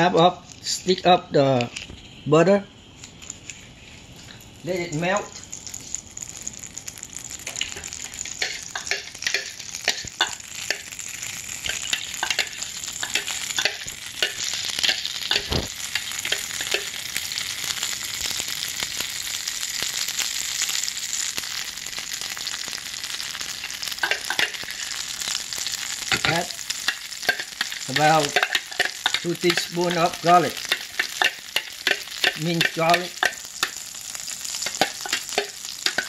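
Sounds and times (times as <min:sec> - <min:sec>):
butter sizzling in frying pan: 0:04.1 - 0:36.0.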